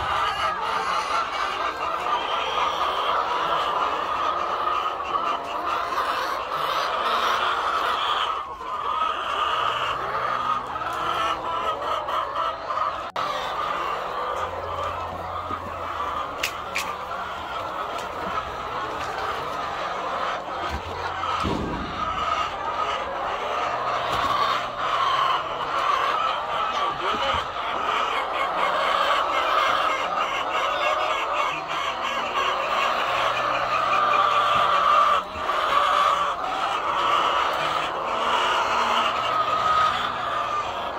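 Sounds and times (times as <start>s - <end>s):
hens clucking: 0.0s - 40.9s.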